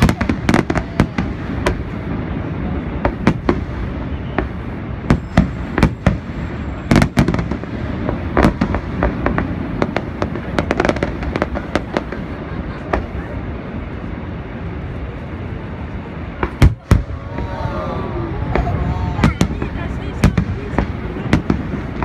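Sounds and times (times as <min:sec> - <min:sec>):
fireworks bursting with bangs: 0:00.0 - 0:22.0
rushing background noise: 0:00.0 - 0:22.0.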